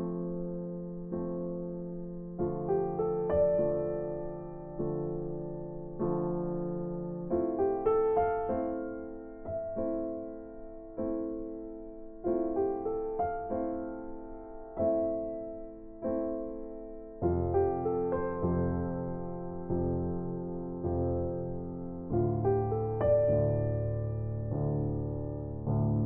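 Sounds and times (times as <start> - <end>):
slow electric piano chords: 0.0 - 26.0.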